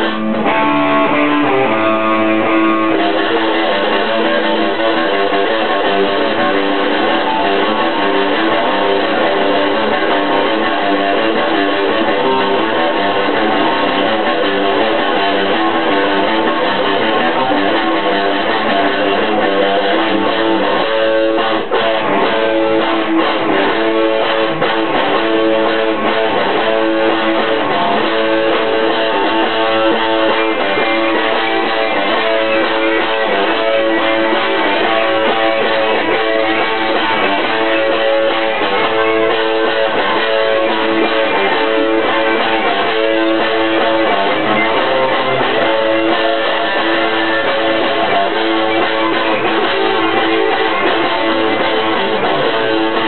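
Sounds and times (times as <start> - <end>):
electric guitars playing rock: 0.0 - 53.0.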